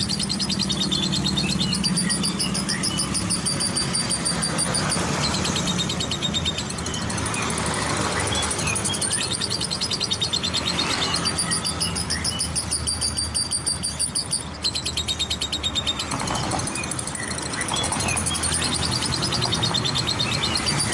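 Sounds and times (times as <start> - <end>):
lovebird chirping fast: 0.0 - 20.9
low traffic rumble: 0.0 - 20.9.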